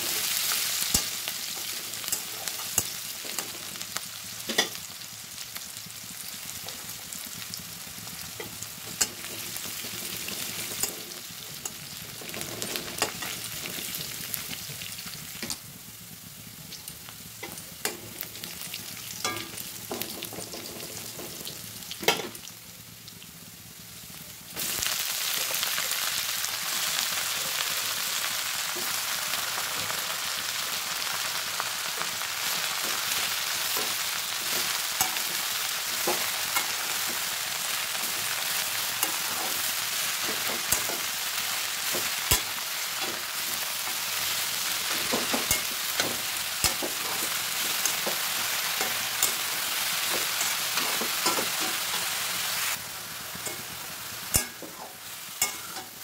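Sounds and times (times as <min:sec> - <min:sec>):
spatula scraping wok: 0:00.0 - 0:04.8, 0:07.3 - 0:15.6, 0:17.3 - 0:22.3, 0:24.6 - 0:56.0
greens sizzling in hot oil: 0:00.0 - 0:56.0.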